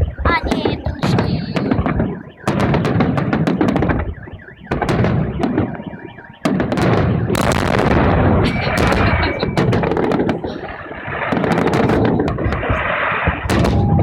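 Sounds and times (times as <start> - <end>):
fireworks booming with crackling: 0.0 - 14.0
rumbling echo: 0.0 - 14.0.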